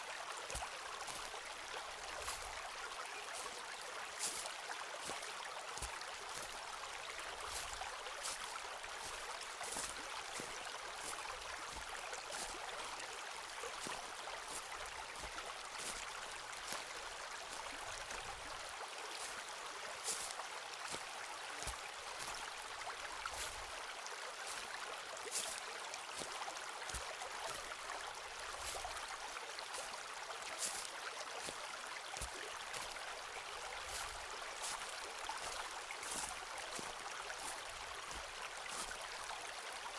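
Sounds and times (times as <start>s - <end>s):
footsteps on forest path: 0.0s - 39.6s
stream rushing: 0.0s - 39.9s.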